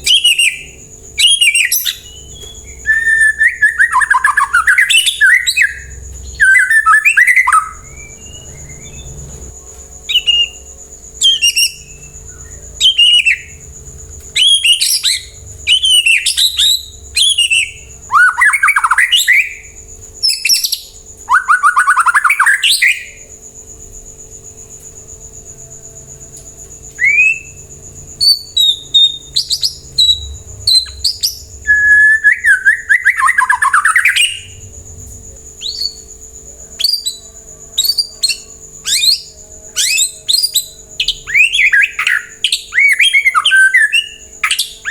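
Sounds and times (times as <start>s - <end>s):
bird whistling song: 0.0s - 9.3s, 10.0s - 13.6s, 14.3s - 23.3s, 26.9s - 34.6s, 35.6s - 36.2s, 36.8s - 44.9s.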